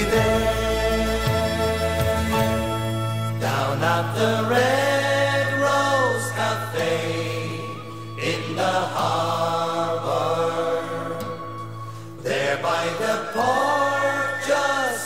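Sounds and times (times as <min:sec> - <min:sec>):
slow melody: 0:00.0 - 0:15.0.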